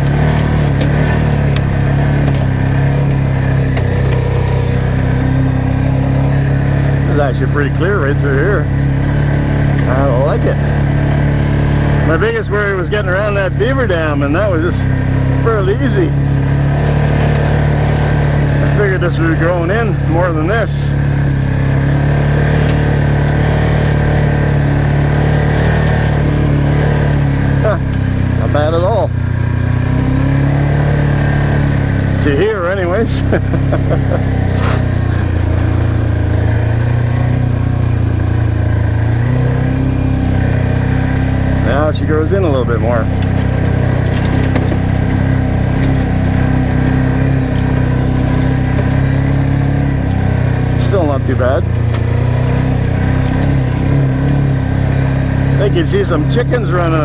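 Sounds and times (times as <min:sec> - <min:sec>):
atv engine running low: 0:00.0 - 0:57.0.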